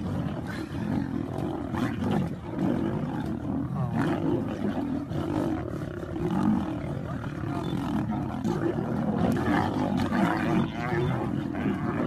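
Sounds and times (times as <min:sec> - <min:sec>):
lions roaring: 0:00.0 - 0:12.0.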